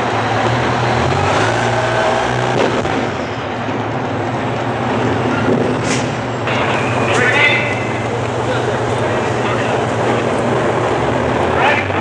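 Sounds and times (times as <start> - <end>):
heavy truck engine rumbling: 0.0 - 12.0.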